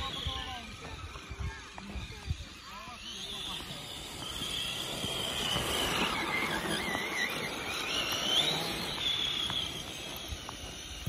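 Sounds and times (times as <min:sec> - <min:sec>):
toy truck motor whining: 0:00.0 - 0:11.0
wheels spinning through snow: 0:00.0 - 0:11.0.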